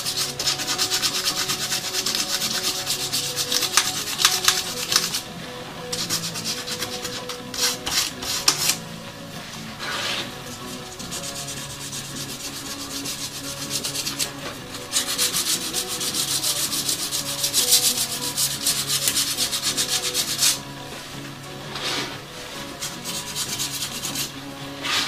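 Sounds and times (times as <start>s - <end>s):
scratchy sanding strokes on metal: 0.0s - 8.8s, 9.8s - 20.6s, 21.7s - 25.0s.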